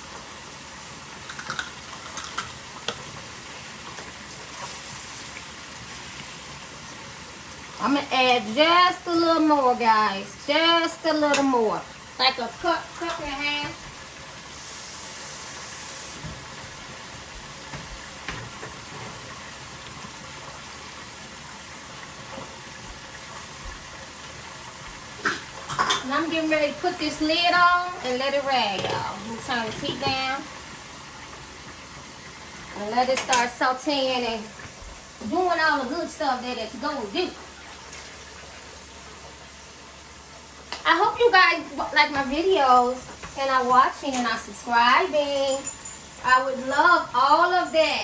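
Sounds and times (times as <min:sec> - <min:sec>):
potatoes sizzling in a pan: 0:00.0 - 0:48.0.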